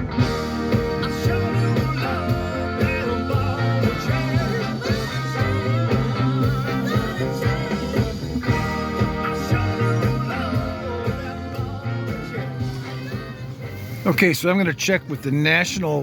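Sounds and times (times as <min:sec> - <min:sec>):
blues-rock music on car stereo: 0:00.0 - 0:16.0.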